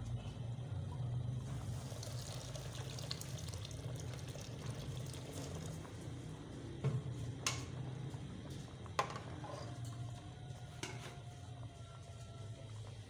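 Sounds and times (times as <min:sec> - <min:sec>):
gas burner rumble: 0:00.0 - 0:13.0
liquid boiling in pot: 0:00.0 - 0:13.0.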